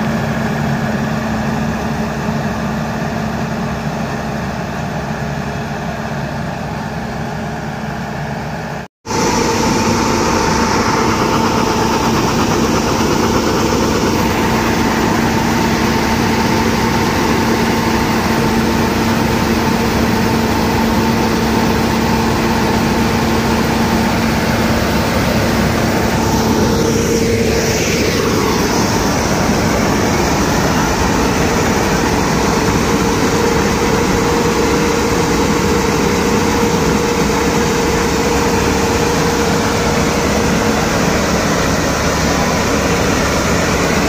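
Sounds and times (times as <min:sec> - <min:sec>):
combine harvester running: 0:00.0 - 0:44.0.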